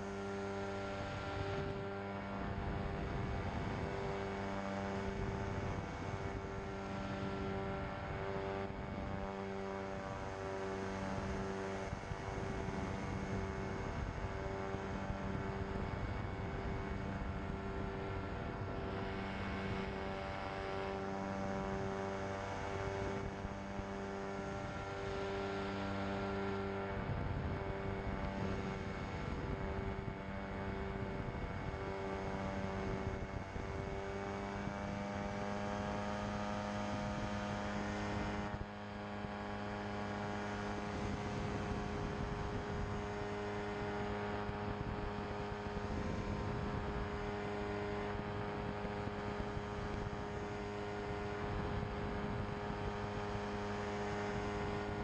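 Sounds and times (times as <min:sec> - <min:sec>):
ultralight engine and propeller drone: 0:00.0 - 0:55.0.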